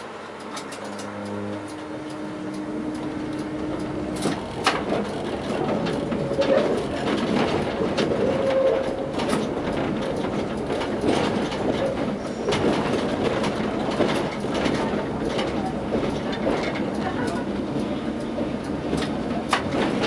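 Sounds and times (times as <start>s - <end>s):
sharp clicks and clacks: 0.0s - 20.0s
tram wheels rumbling on rails: 0.0s - 20.0s.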